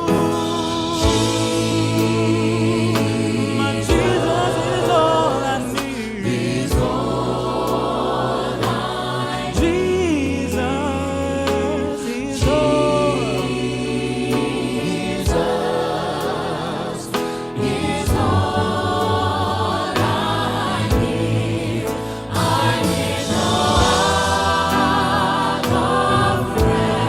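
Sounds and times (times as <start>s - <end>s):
gospel choir singing: 0.0s - 27.0s
instrumental accompaniment: 0.0s - 27.0s.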